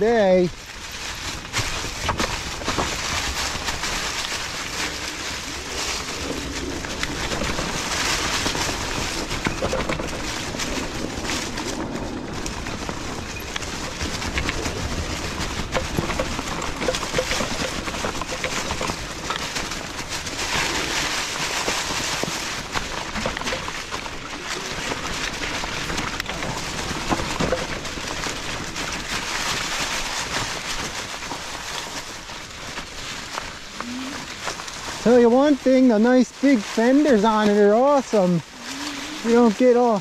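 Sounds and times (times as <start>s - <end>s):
bike tires crunching leaves: 0.0s - 40.0s.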